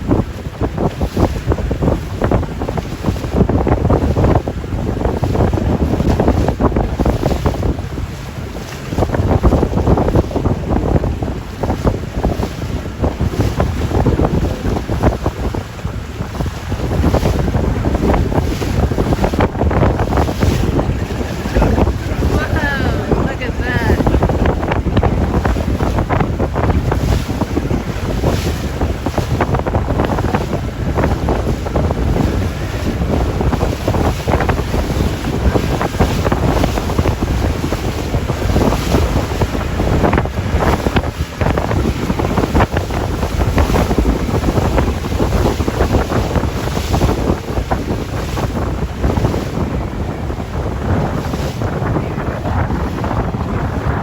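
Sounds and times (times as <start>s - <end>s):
waves washing: 0.0s - 54.0s
wind buffeting microphone: 0.0s - 54.0s.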